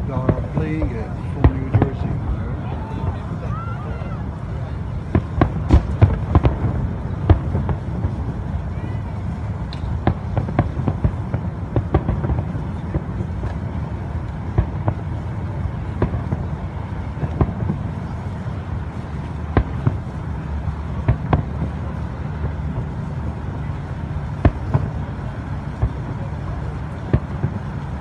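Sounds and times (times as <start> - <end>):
fireworks bangs: 0.0 - 28.0
low rumble: 0.0 - 28.0.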